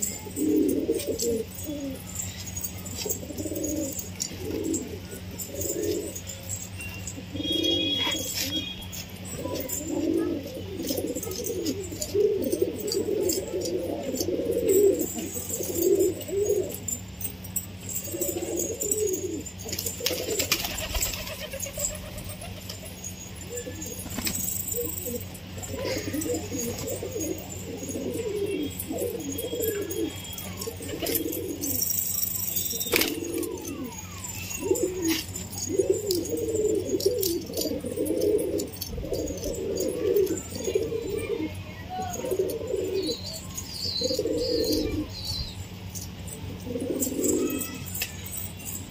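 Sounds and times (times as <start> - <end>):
pigeons pecking clicks: 0.0 - 41.5, 42.1 - 45.0, 45.9 - 48.9
pigeons cooing: 0.0 - 48.9.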